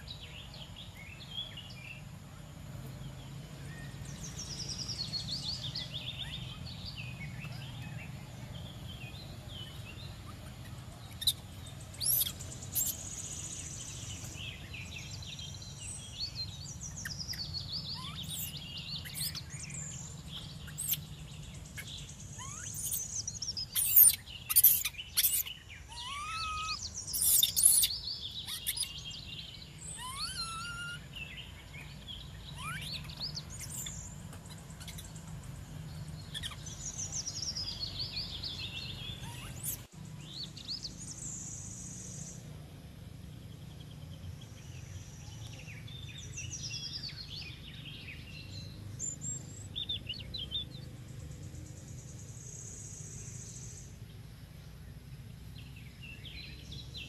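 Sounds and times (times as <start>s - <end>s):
birds chirping and whistling: 3.6s - 42.4s, 43.8s - 53.9s.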